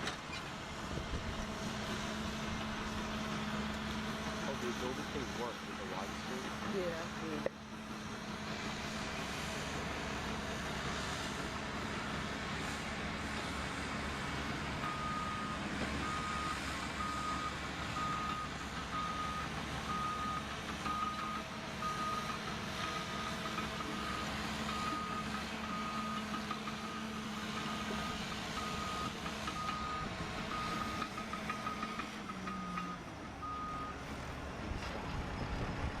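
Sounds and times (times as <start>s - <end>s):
bulldozer diesel engine and tracks: 0.0s - 36.0s.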